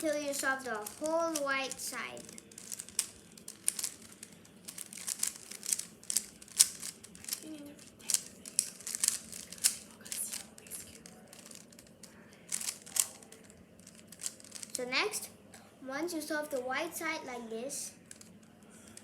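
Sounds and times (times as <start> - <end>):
plastic puzzle cube clicking: 0.1 - 14.8, 18.0 - 19.0.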